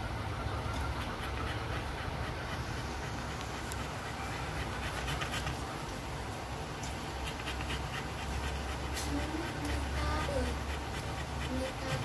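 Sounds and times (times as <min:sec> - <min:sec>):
dog panting: 0:00.3 - 0:12.0.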